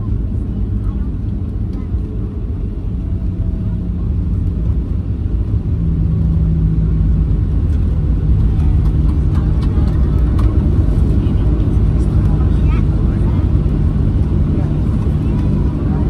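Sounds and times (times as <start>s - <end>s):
airplane wheels and engines rumbling: 0.0s - 16.0s.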